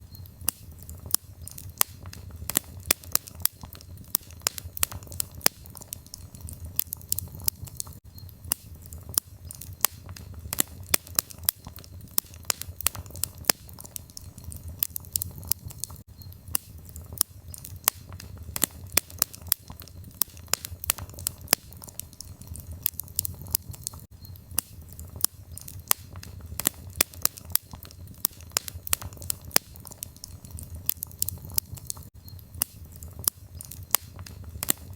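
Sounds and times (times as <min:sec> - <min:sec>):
firewood crackling and popping: 0:00.0 - 0:34.9
low fire rumble: 0:00.0 - 0:34.9.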